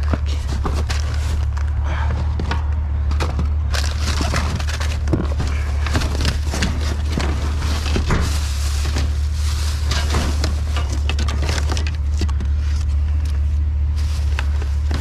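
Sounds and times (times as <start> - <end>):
trash rustling and crinkling: 0.0 - 15.0
truck engine idling: 0.0 - 15.0.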